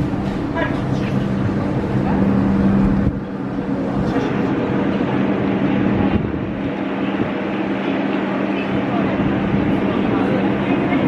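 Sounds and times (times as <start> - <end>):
train equipment low hum: 0.0 - 11.0.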